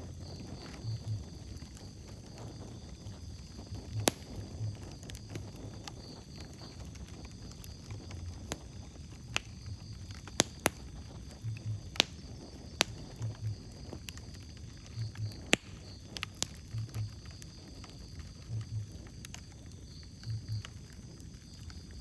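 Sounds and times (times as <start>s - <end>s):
low steady hiss: 0.0s - 22.0s
wood fire crackling and popping: 0.0s - 22.0s.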